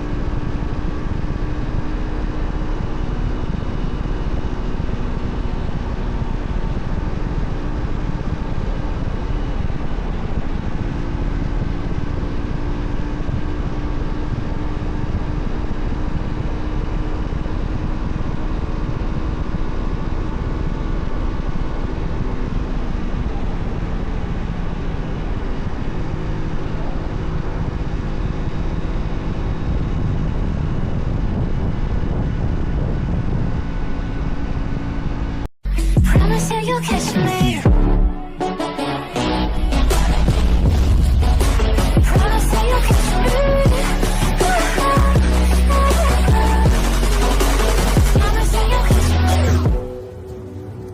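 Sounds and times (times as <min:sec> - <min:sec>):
motorcycle engine running: 0:00.0 - 0:36.4, 0:39.3 - 0:50.9.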